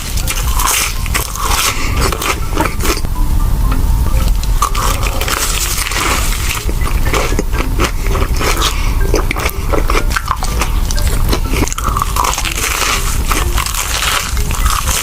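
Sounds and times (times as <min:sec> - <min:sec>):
crunching bites and chewing: 0:00.0 - 0:03.1, 0:04.4 - 0:15.0
steady low hum: 0:00.0 - 0:15.0.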